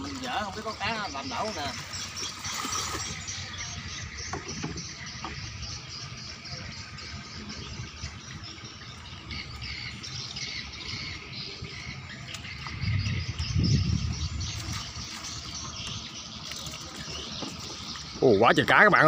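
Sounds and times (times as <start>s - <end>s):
birds chirping: 0.0s - 19.0s
water sloshing and splashing: 0.0s - 19.0s.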